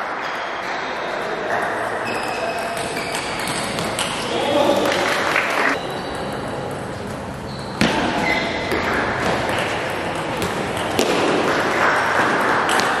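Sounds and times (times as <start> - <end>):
large hall background noise: 0.0 - 13.0.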